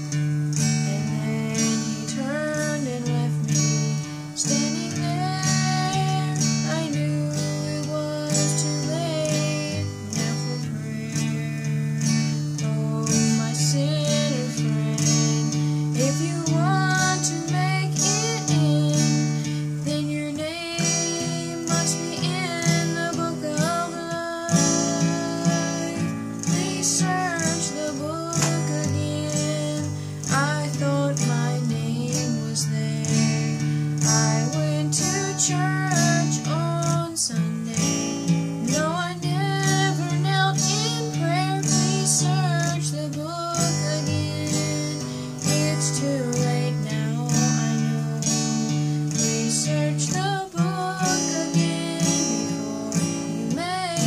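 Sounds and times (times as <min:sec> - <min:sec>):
acoustic guitar strumming: 0:00.0 - 0:54.0
woman singing gospel song: 0:00.8 - 0:12.0, 0:12.6 - 0:48.6, 0:49.2 - 0:54.0.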